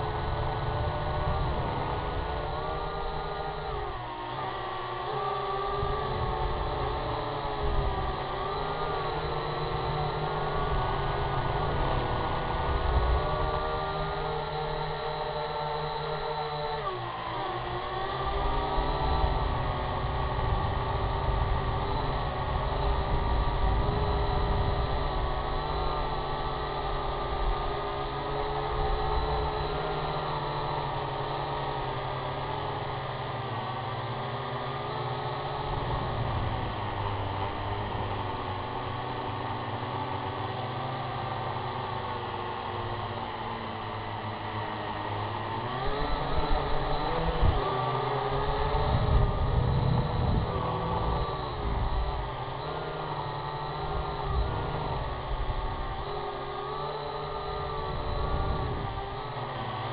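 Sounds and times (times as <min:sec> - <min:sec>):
quadcopter propellers whirring: 0:00.0 - 0:59.9.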